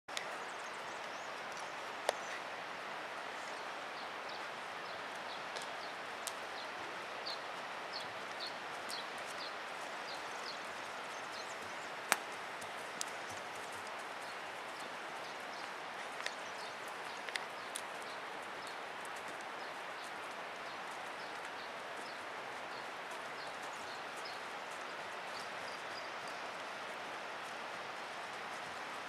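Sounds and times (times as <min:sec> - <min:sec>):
outdoor background hiss: 0:00.1 - 0:29.0.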